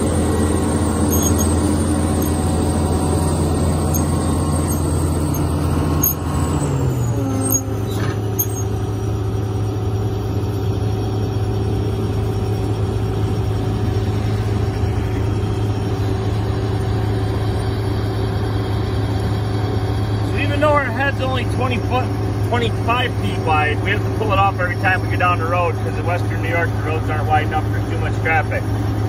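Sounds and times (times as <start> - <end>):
combine diesel engine running: 0.0 - 29.0.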